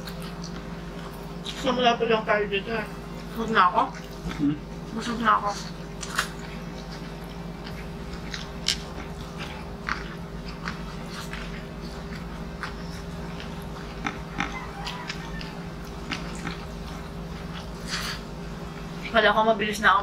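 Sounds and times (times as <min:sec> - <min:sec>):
chewing and biting: 0:00.0 - 0:01.6, 0:03.2 - 0:04.6, 0:05.5 - 0:19.0
steady low hum: 0:00.0 - 0:20.0.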